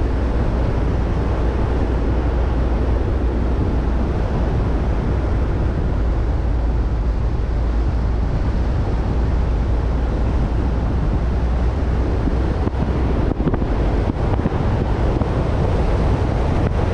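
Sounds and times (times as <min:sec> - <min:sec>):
car road noise: 0:00.0 - 0:16.9
wind buffeting microphone: 0:00.0 - 0:16.9.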